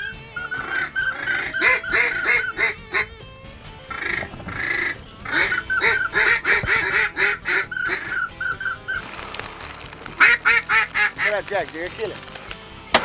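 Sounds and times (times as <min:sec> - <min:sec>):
waterfowl quacking and honking: 0:00.0 - 0:03.2, 0:03.9 - 0:11.8.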